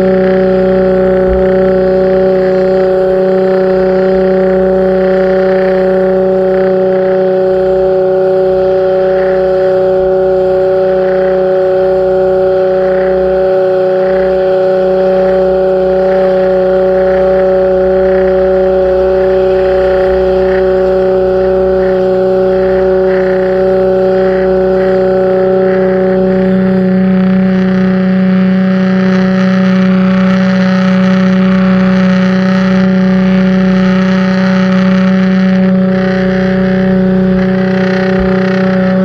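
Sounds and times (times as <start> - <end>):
pressure washer droning: 0.0 - 39.0.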